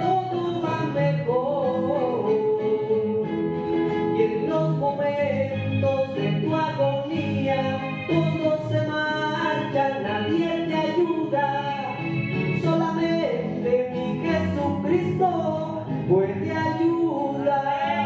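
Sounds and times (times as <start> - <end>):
instrumental backing music: 0.0 - 18.0
man singing into a microphone: 0.0 - 18.0.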